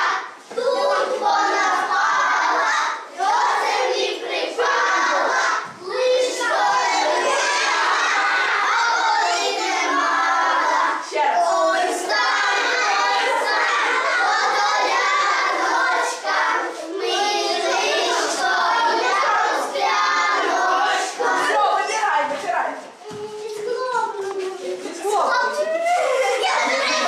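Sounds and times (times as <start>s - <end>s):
children shouting and chattering: 0.0s - 27.0s.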